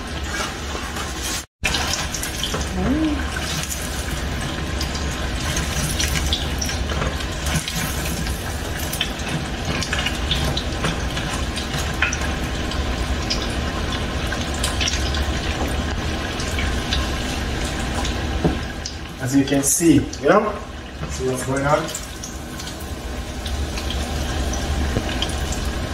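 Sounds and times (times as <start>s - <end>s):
deep-frying sizzle with pops: 0.0s - 25.9s.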